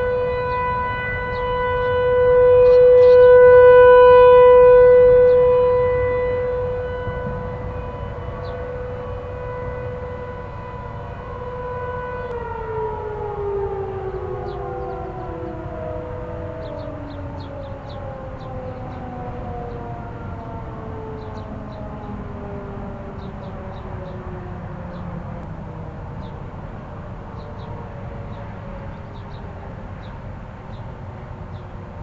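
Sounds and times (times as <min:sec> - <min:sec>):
distant warning sirens: 0:00.0 - 0:32.0.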